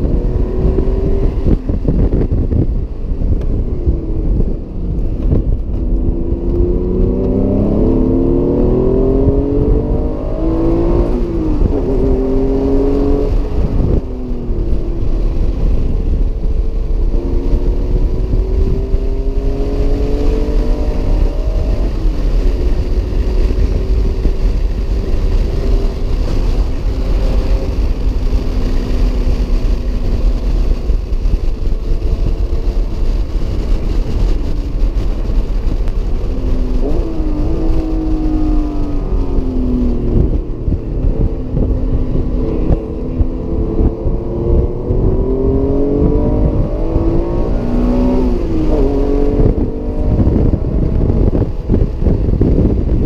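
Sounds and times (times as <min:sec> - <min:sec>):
car engine revving: 0:00.0 - 0:53.0
road rumble: 0:00.0 - 0:53.0.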